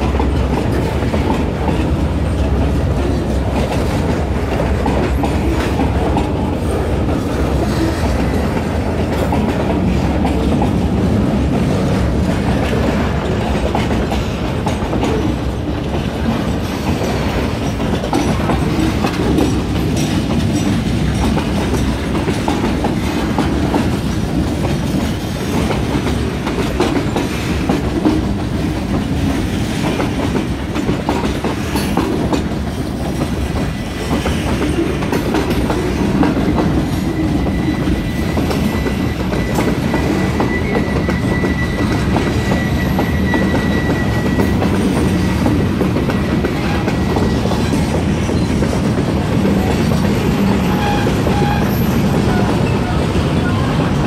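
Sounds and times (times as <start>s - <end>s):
clicking over rail joints: 0.0s - 53.5s
rumble of train wheels: 0.0s - 54.0s.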